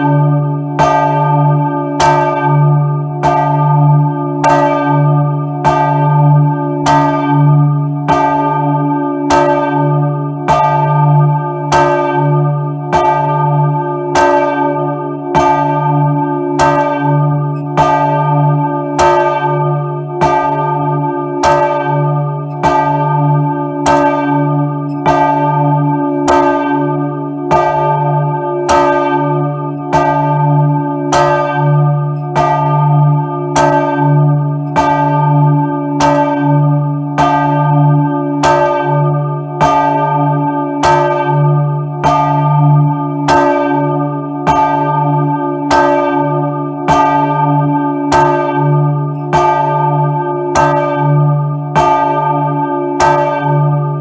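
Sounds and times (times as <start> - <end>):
large church bell ringing: 0.0 - 54.0.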